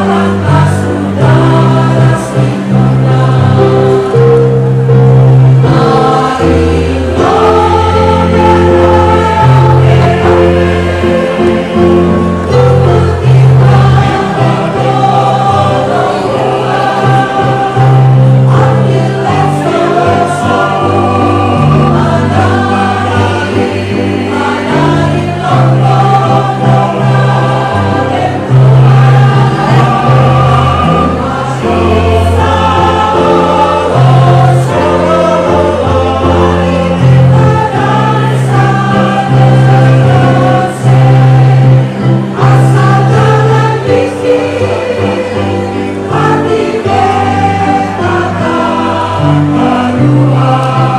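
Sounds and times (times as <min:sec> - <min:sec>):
choir singing in parts: 0:00.0 - 0:50.9.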